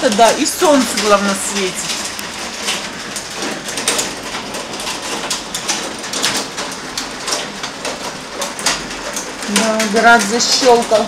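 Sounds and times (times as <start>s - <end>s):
hailstones clicking on hard surfaces: 0.0s - 11.0s.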